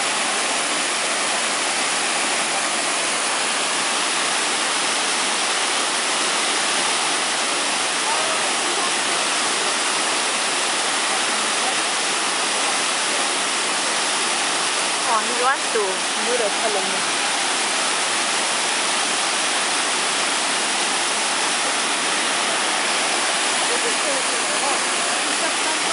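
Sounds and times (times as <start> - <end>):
waterfall rushing over rock: 0.0 - 25.9.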